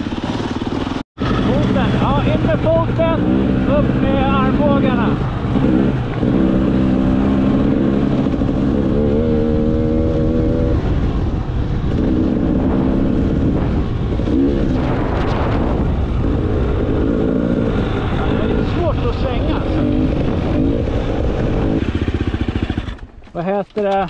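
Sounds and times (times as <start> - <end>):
motorcycle engine revving: 0.0 - 23.2.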